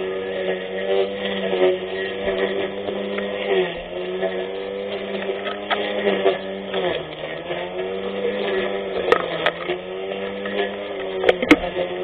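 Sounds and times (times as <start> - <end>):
electric lawn mower motor whining: 0.0 - 12.0
debris clicking against mower: 0.3 - 12.0.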